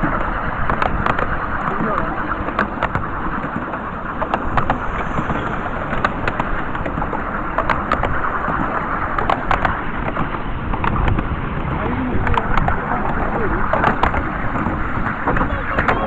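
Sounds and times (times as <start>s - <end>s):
miniature train rumbling on track: 0.0s - 16.0s.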